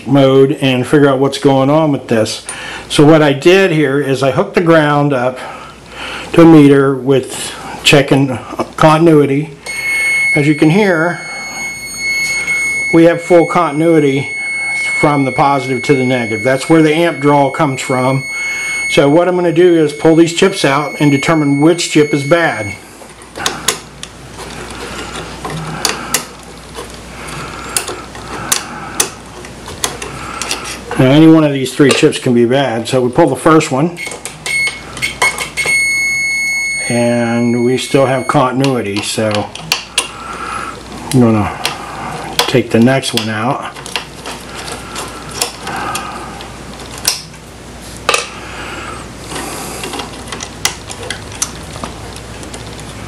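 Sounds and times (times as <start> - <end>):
faint low hum: 0.0 - 47.0.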